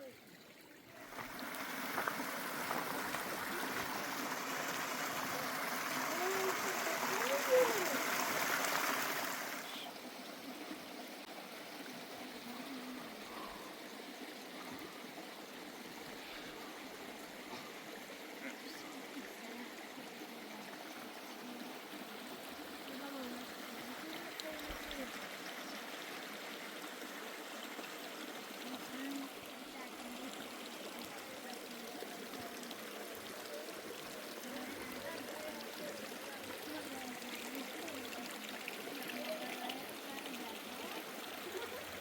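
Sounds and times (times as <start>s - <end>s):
faint voices talking: 0.0s - 42.0s
stream water rushing: 0.0s - 42.0s.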